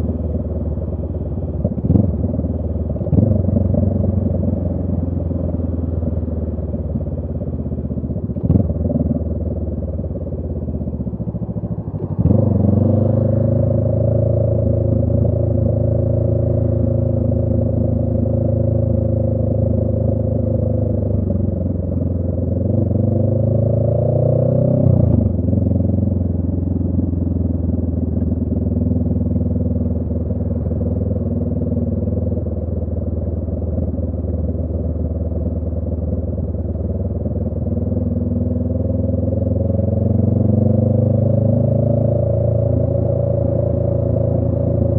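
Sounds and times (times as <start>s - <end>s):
motorcycle engine revving: 0.0s - 7.1s, 8.2s - 44.9s.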